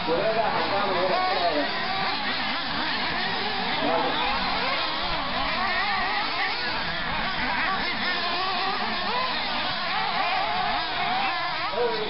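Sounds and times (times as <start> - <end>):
small engines revving: 0.0 - 12.0.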